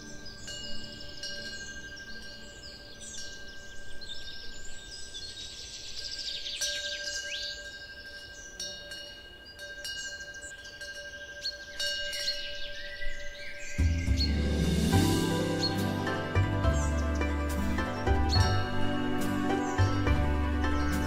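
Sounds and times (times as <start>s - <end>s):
chimes ringing: 0.0s - 4.9s, 6.5s - 21.0s
birds chirping: 0.0s - 21.0s.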